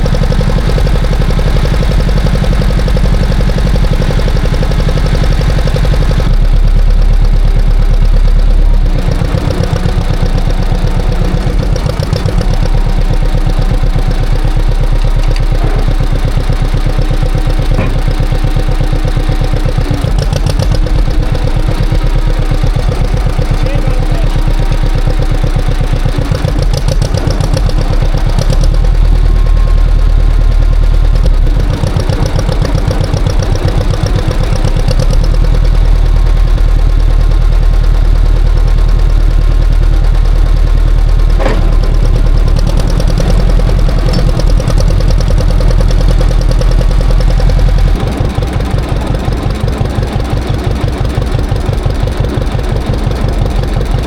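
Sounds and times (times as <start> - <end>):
tractor engine pulsing: 0.0 - 54.0.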